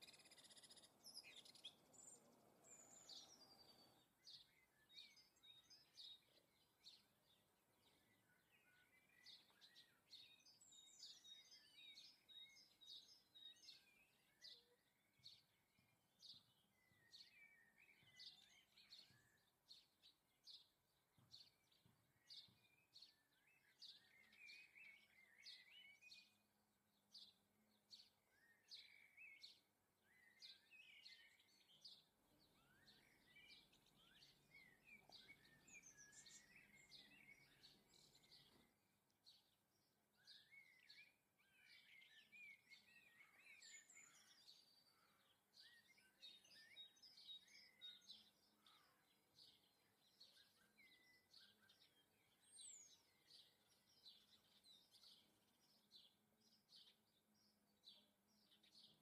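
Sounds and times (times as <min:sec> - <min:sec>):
bird chirps: 0:00.0 - 0:59.0
small birds twittering: 0:00.0 - 0:59.0.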